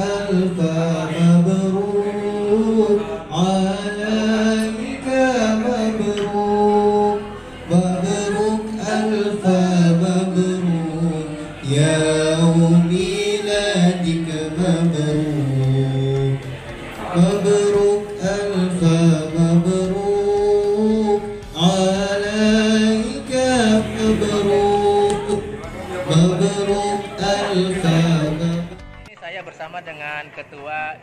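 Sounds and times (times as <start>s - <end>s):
man singing a slow chant: 0.0s - 28.8s.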